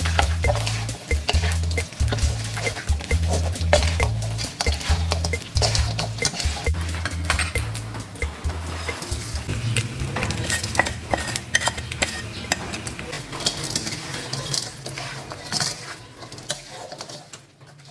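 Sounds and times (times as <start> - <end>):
wooden spatula scraping wok: 0.0 - 17.9.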